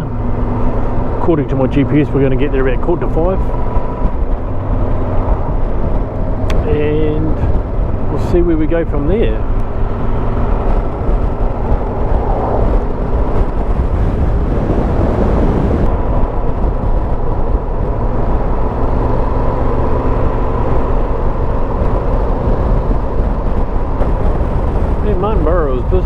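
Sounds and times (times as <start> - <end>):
motorcycle engine: 0.0 - 26.0
wind noise: 0.0 - 26.0.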